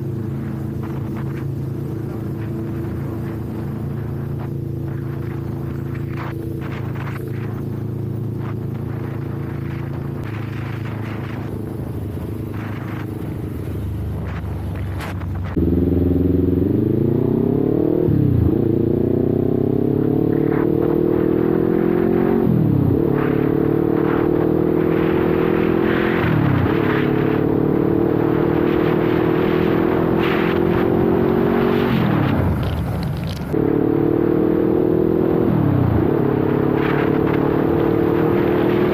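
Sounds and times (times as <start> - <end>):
wind buffeting microphone: 0.0 - 33.6
motorcycle engine revving: 0.0 - 38.9.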